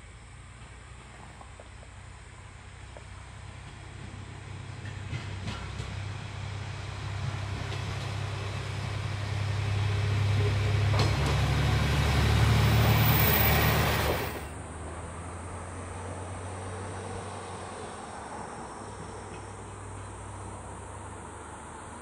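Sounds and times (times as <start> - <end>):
diesel railcar engine drone: 0.0 - 22.0.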